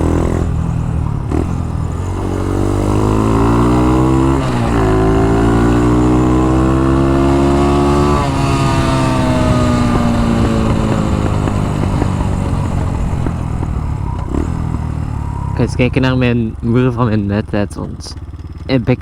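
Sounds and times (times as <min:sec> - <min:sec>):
small motorcycle engine revving: 0:00.0 - 0:19.0.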